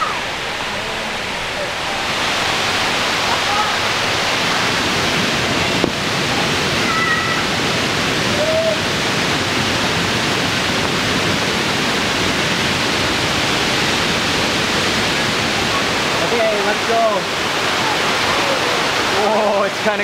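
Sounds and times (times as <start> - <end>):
water rushing down waterfalls: 0.0 - 20.0.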